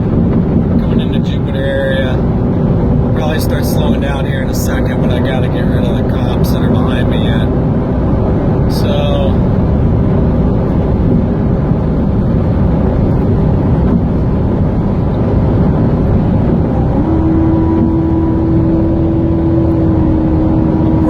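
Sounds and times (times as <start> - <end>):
car engine at speed: 0.0 - 21.0
road noise: 0.0 - 21.0
steady hum: 0.0 - 21.0.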